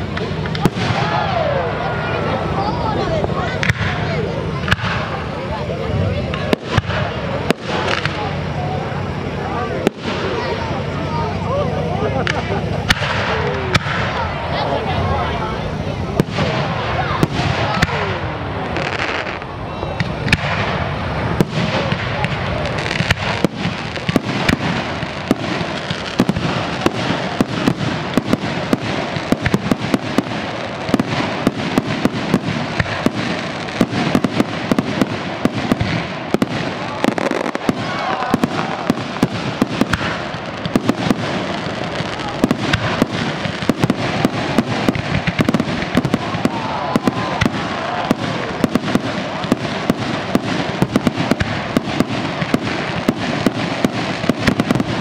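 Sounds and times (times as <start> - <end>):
fireworks bangs and cracks: 0.0 - 55.0.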